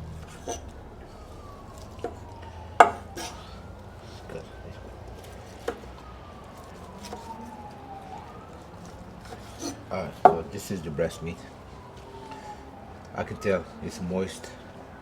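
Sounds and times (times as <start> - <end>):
distant siren wailing: 0.0 - 15.0.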